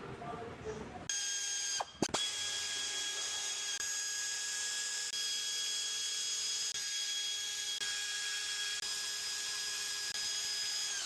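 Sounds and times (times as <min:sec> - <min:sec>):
power tool high whine: 0:01.1 - 0:11.0.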